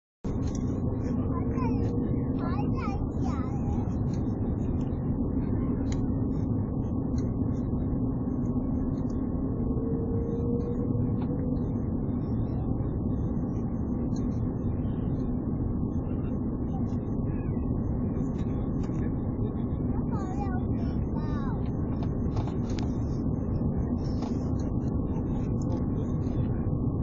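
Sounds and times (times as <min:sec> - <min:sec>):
jet engine and airflow rumble: 0:00.2 - 0:27.0
steady cabin hum: 0:00.2 - 0:27.0.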